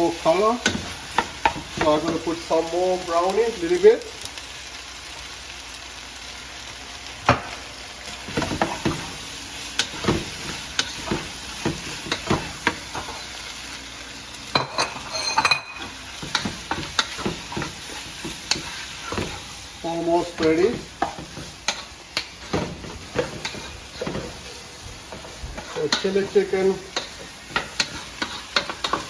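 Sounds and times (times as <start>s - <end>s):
sauce sizzling in a pan: 0.0s - 29.0s.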